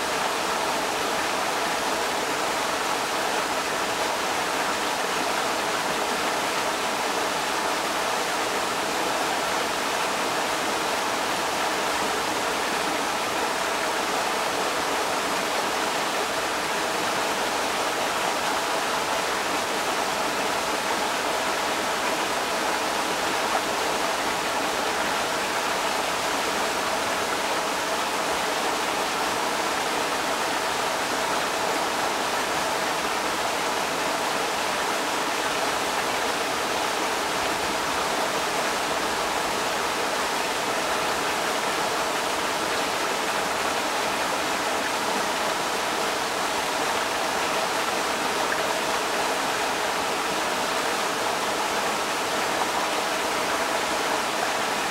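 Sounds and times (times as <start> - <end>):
creek water rushing over rocks: 0.0 - 54.9.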